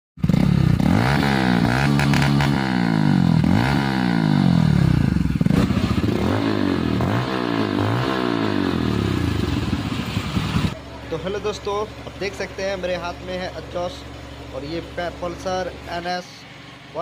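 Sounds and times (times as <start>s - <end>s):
motorcycle engine revving: 0.2s - 17.0s.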